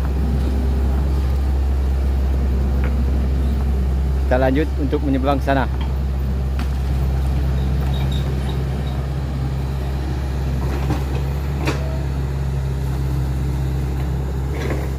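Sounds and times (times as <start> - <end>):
excavator diesel engine humming: 0.0 - 14.9.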